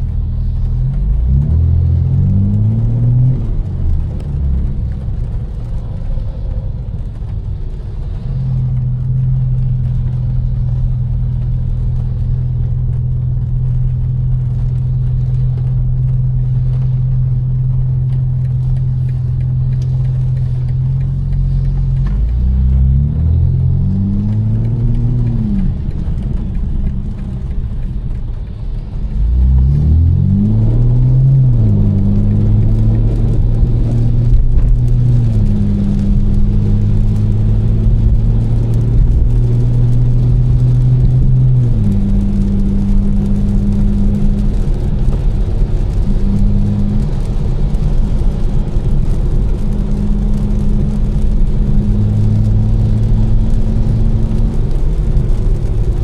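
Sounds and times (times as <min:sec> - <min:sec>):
car accelerating with upshifts: 0:00.0 - 0:56.0
car engine revving: 0:00.0 - 0:56.0.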